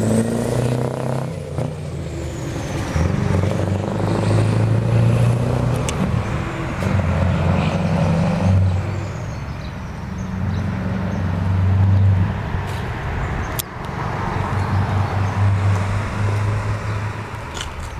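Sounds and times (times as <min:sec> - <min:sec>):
truck engine rumbling: 0:00.0 - 0:17.9.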